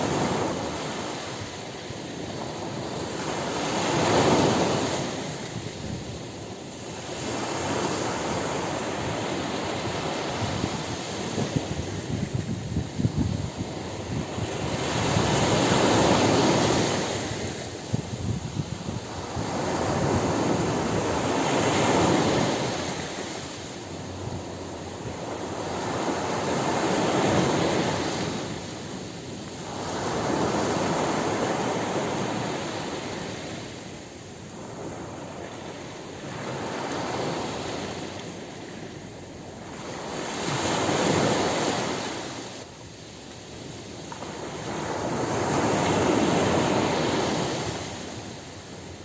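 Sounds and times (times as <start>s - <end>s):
ocean surf washing onto beach: 0.0s - 49.0s.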